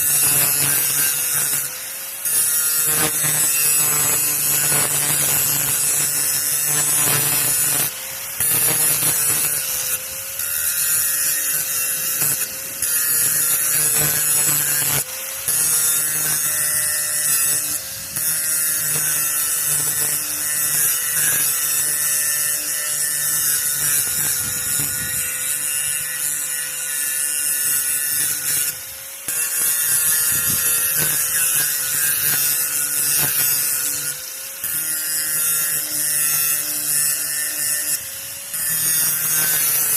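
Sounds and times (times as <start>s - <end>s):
grinder grinding metal: 0.0s - 39.9s.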